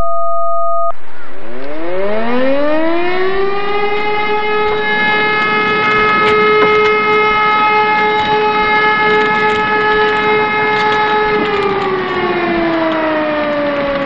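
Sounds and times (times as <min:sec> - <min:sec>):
civil defense siren winding down: 0:00.9 - 0:14.0.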